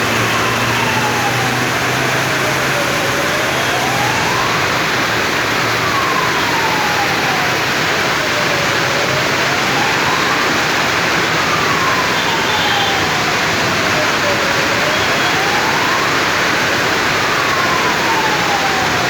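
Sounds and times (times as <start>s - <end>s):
faint siren wailing: 0.0s - 19.0s
heavy rain falling: 0.0s - 19.0s.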